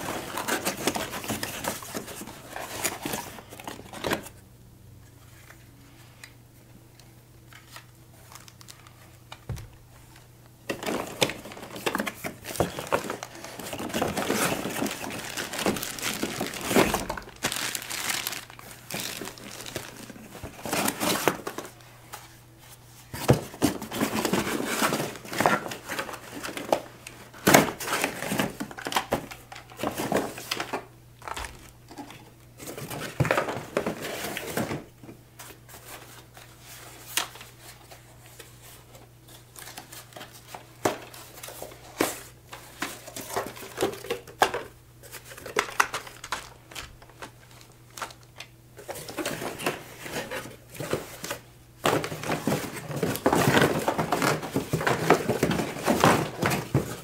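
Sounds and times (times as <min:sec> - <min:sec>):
cardboard and plastic crinkling: 0:00.0 - 0:04.4, 0:07.5 - 0:57.0
low steady hum: 0:00.0 - 0:57.0.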